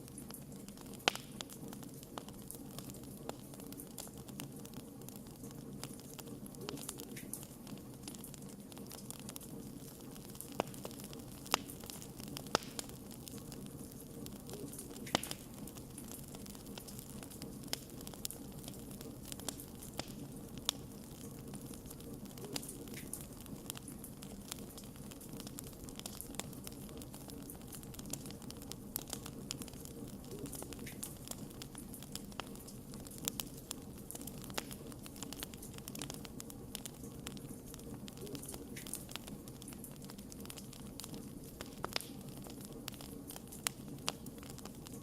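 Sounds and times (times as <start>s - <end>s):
logs crackling and popping: 0.0s - 45.0s
low rush of flames: 0.0s - 45.0s.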